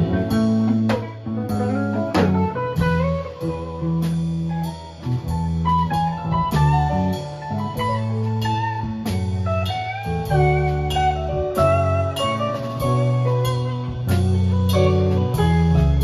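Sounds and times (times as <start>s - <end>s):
drums: 0.0s - 16.0s
electric bass notes: 0.0s - 16.0s
electric guitar lead line: 0.0s - 16.0s.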